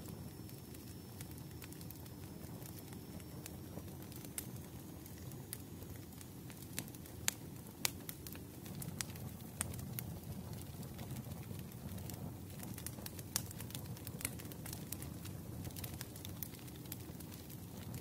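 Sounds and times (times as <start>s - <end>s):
sharp pops from fire: 0.0s - 18.0s
wood fire crackling: 0.0s - 18.0s.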